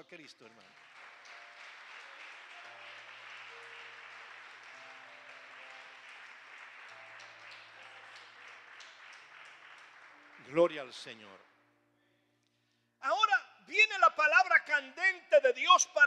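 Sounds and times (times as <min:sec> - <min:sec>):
congregation applauding: 0:00.0 - 0:11.6, 0:13.2 - 0:14.8.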